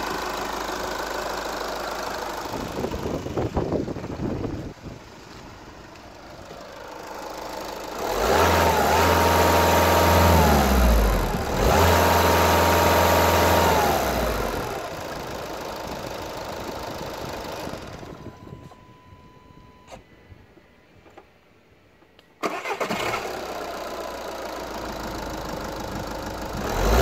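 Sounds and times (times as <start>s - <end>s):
diesel engine idling and revving: 0.0s - 19.2s, 22.4s - 27.0s.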